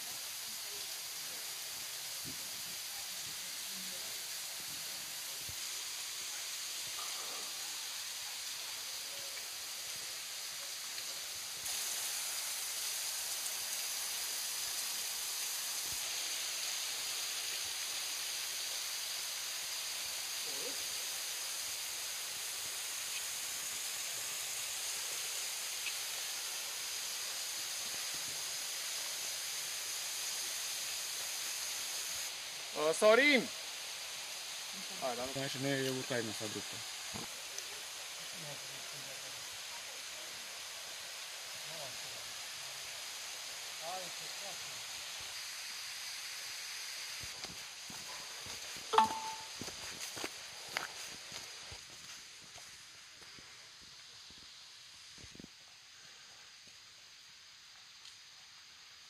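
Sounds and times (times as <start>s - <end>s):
waterfall falling onto rocks: 0.0s - 59.0s.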